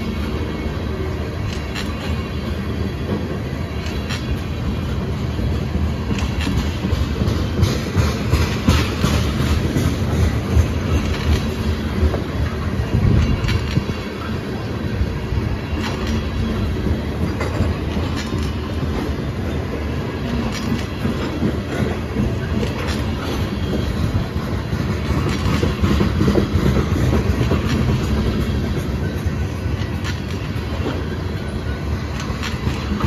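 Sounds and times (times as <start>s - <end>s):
train wheels rumbling on rail: 0.0s - 33.0s
wheels clacking over rail joints: 1.4s - 33.0s.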